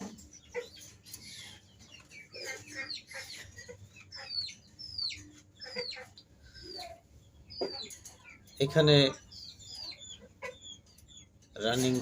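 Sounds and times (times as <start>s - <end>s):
high falling bird calls: 0.0s - 12.0s
swamphens clucking: 0.0s - 12.0s.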